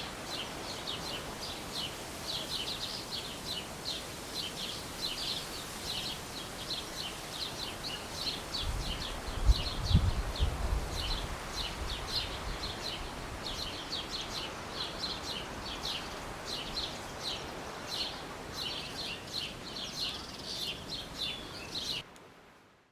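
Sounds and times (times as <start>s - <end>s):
small birds chirping: 0.0s - 22.0s
outdoor background noise: 0.0s - 22.9s.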